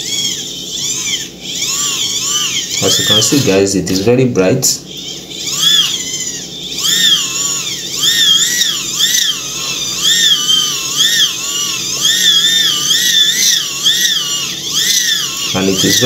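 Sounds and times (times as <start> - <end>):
hand-spun motor whine: 0.0 - 16.0.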